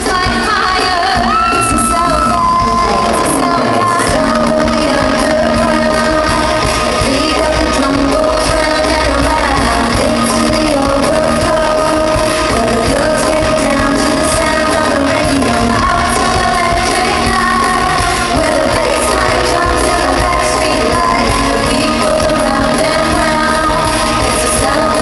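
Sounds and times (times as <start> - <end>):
beat-driven backing music: 0.0 - 25.0
women singing into microphones: 0.0 - 25.0.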